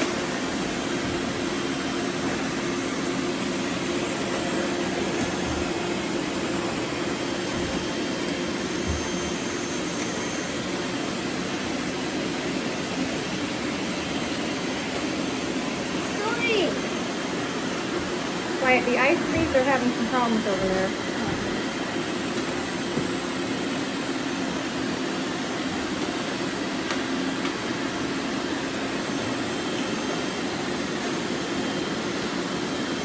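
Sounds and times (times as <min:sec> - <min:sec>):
robot vacuums whirring: 0:00.0 - 0:33.0.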